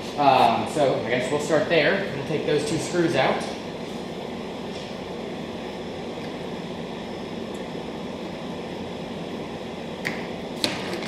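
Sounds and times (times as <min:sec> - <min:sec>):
ventilation fan hum: 0:00.0 - 0:11.0.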